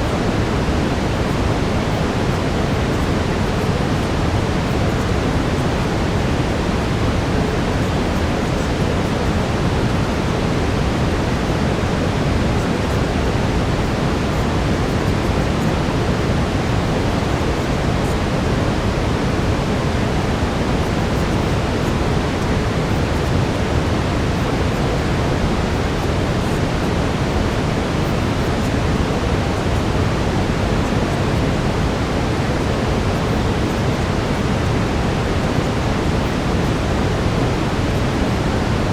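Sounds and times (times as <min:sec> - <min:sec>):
brown noise: 0:00.0 - 0:38.9.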